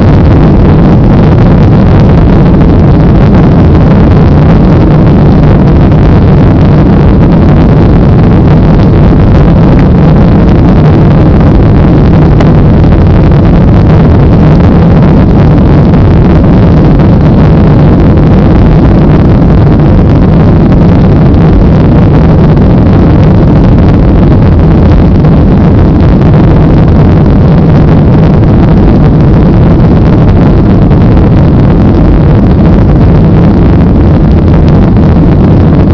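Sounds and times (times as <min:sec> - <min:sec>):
jet engine rumble in cabin: 0:00.0 - 0:35.9.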